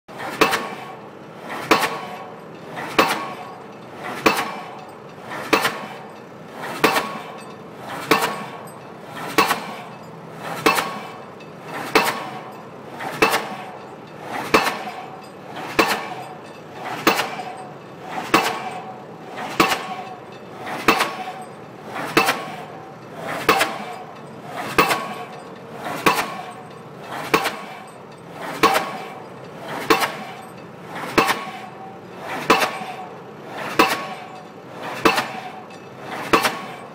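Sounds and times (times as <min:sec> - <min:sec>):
pile-driving hammer striking steel pipe: 0:00.2 - 0:36.9.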